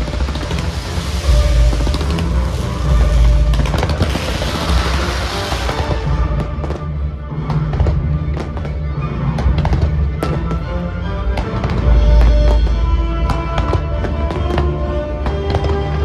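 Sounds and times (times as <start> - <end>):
fireworks cracking: 0.0 - 10.6, 11.4 - 16.0
music: 0.0 - 16.0.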